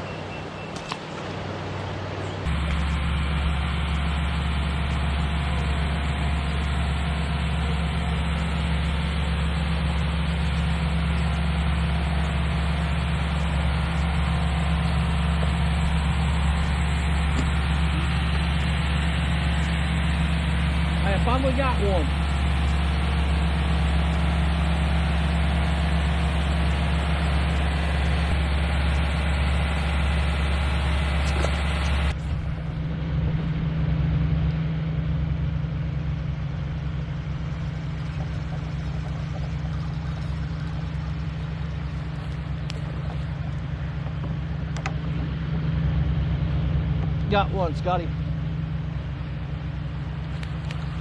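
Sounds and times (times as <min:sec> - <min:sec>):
low hum: 0:00.0 - 0:51.0.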